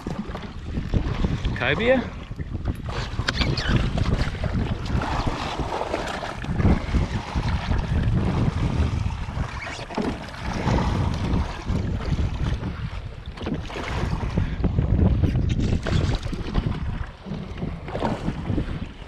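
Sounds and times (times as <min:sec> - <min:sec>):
sea water splashing: 0:00.0 - 0:19.0
wind buffeting microphone: 0:00.0 - 0:19.0.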